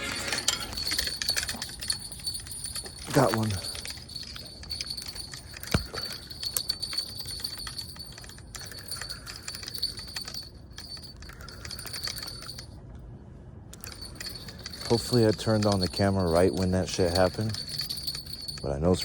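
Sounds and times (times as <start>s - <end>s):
fishing rod bells jingling: 0.0s - 12.8s, 13.7s - 19.0s.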